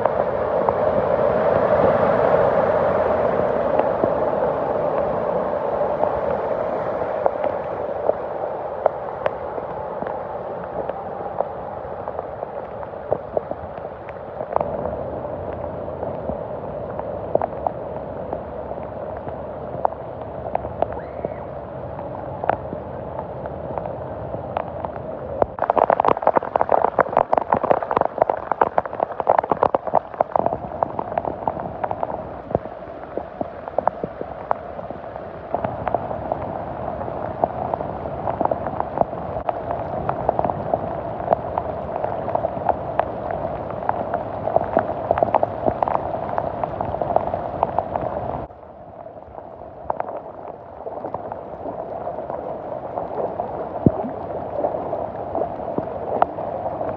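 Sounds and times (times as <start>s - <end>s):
heavy rain on standing water: 0.0s - 56.9s.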